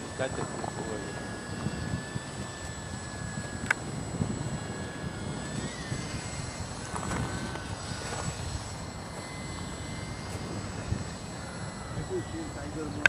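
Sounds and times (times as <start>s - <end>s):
small electric motor whine: 0.0s - 13.0s
wind buffeting microphone: 0.0s - 13.0s.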